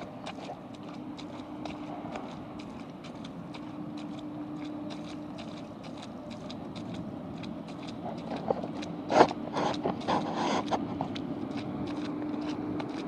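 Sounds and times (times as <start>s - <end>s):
rubber boots splashing in puddle: 0.0s - 13.0s.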